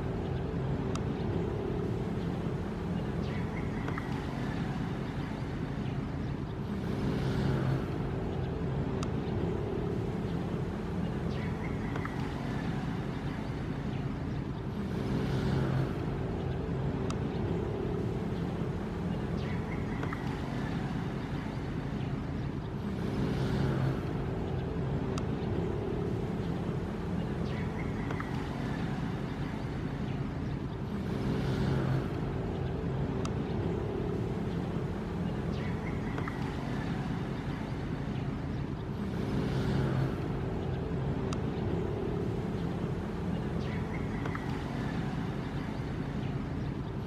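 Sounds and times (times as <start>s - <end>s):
constant low rumble: 0.0s - 47.0s
low droning hum: 0.0s - 47.0s.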